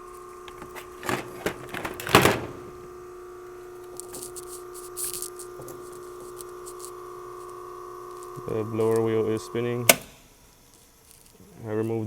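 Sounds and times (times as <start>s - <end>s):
blower motor humming: 0.0s - 12.0s.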